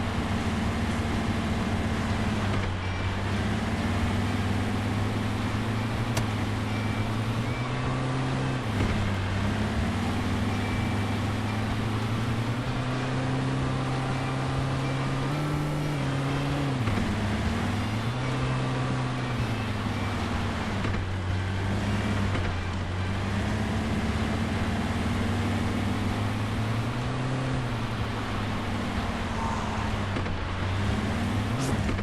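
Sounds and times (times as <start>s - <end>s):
engine running under load: 0.0s - 32.0s.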